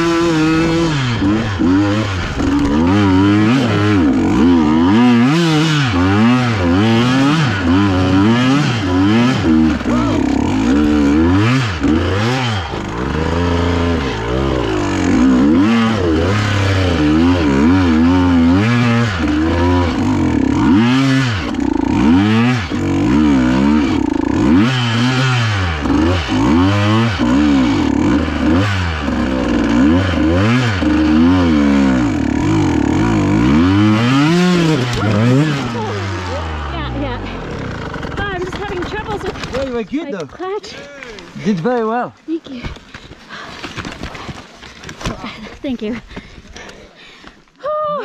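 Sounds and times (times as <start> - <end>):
dirt bike engine revving: 0.0 - 40.1.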